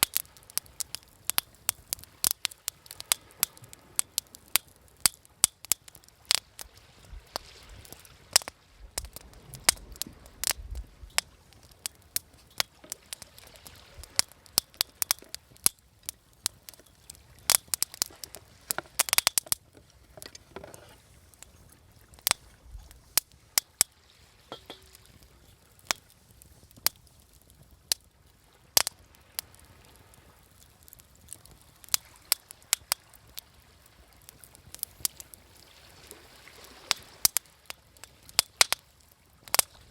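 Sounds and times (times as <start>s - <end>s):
campfire crackling: 0.0s - 39.9s
sharp pops from fire: 0.0s - 39.9s.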